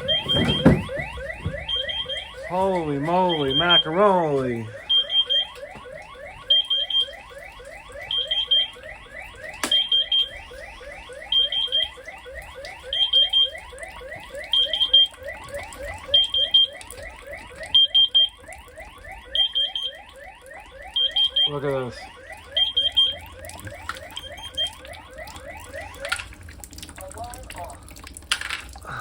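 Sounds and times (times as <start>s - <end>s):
electronic alarm chirping: 0.0s - 26.2s.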